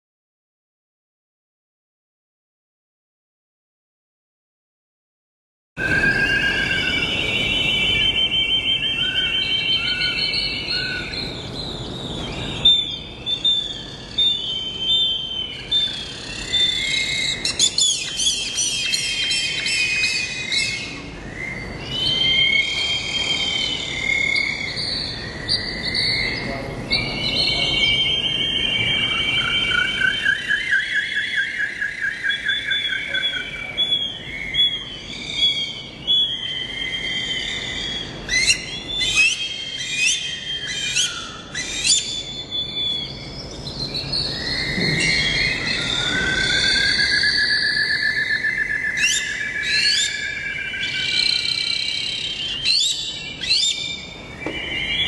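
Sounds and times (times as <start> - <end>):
birds singing and calling: 5.8 - 55.0.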